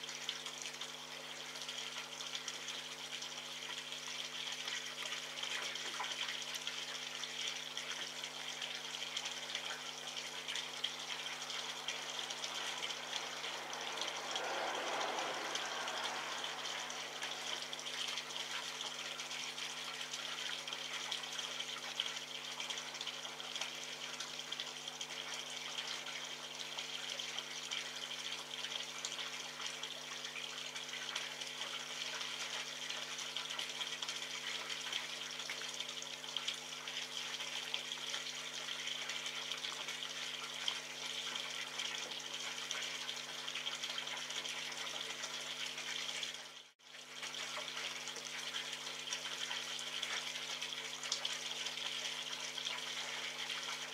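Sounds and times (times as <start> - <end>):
low electrical hum: 0.0 - 53.9.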